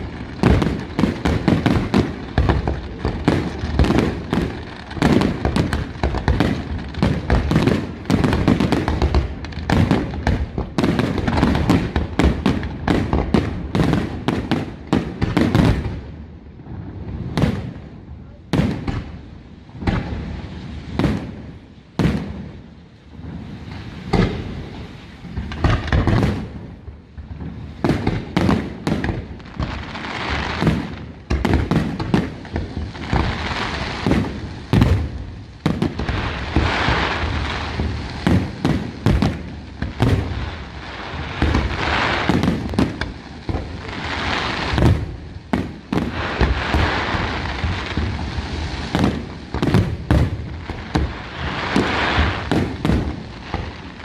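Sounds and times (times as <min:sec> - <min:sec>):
firework bursts and booms: 0:00.0 - 0:54.0
fireworks crackling: 0:00.0 - 0:54.0.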